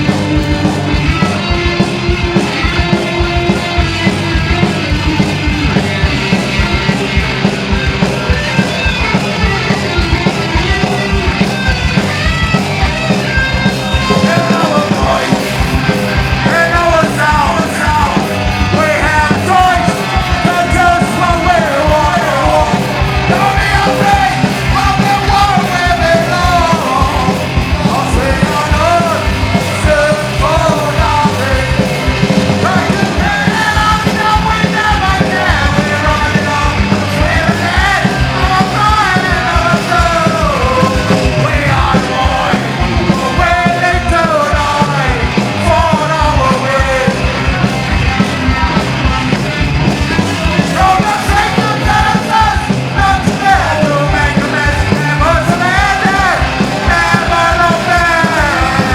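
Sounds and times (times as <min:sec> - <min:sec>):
driving drum beat: 0:00.0 - 0:58.9
punk rock band playing: 0:00.0 - 0:58.9.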